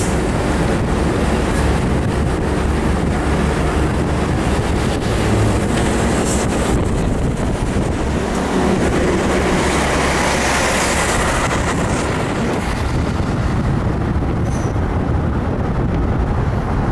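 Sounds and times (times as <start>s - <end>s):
road and engine noise: 0.0s - 16.9s
wind rushing past microphone: 0.0s - 16.9s.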